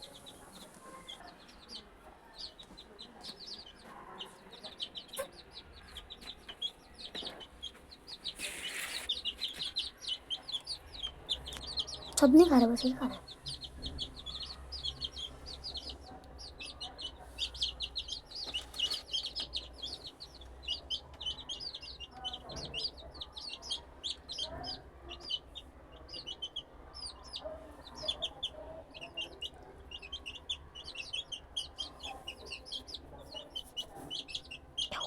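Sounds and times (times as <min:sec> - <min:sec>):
chicks peeping: 0:00.0 - 0:35.0.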